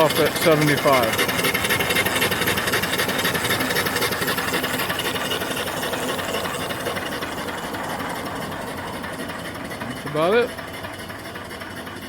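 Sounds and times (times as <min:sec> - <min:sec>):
steam engine clattering: 0:00.0 - 0:12.0.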